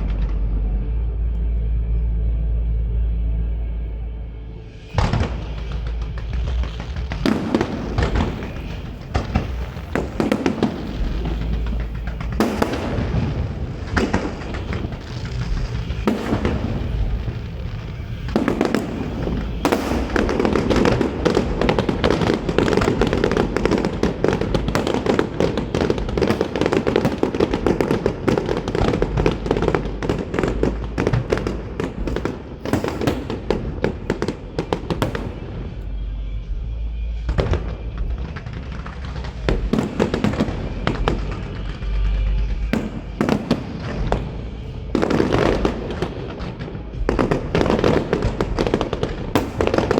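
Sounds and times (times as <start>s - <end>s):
music playing: 0.0s - 49.9s
fireworks crackling and banging: 4.7s - 49.9s.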